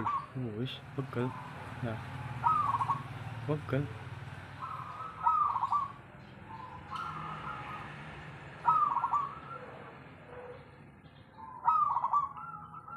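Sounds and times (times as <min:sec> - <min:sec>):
dove cooing: 0:00.0 - 0:03.2, 0:04.5 - 0:12.9.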